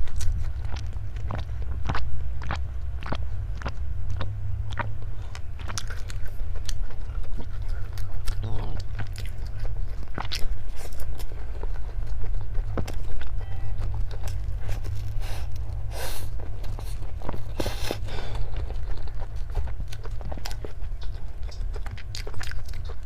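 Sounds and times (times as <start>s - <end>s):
crunchy chewing of food: 0.0s - 23.0s
steady low hum: 0.0s - 23.0s.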